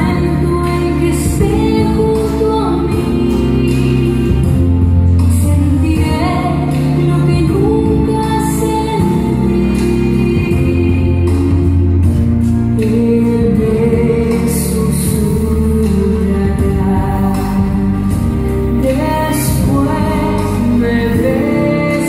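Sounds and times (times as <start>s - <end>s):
backing music with bass line: 0.0s - 22.0s
woman singing slow song: 0.0s - 22.0s.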